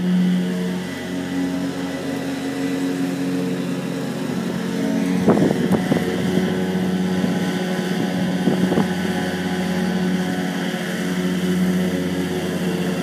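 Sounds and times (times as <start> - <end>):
ride-on mower engine running: 0.0 - 13.0.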